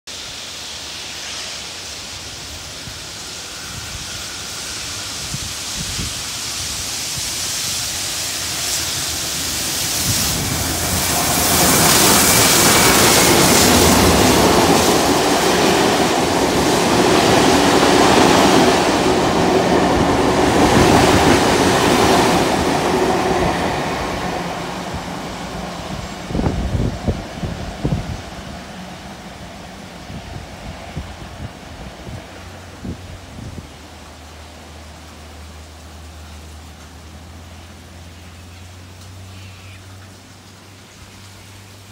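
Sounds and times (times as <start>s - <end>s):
steam train passing rumble: 0.1s - 41.9s.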